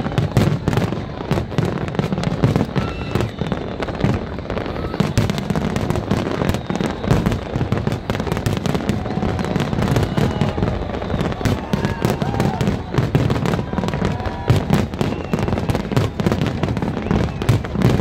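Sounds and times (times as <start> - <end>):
fireworks booming and crackling: 0.0 - 18.0.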